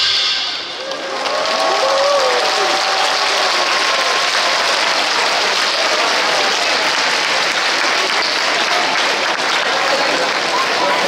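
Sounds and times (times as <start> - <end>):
crowd applauding: 0.6 - 11.0.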